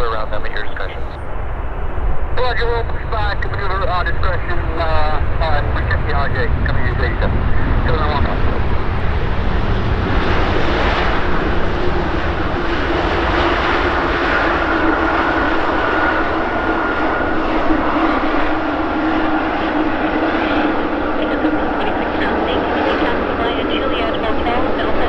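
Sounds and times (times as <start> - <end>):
jet engine roar and whine: 0.0 - 25.0.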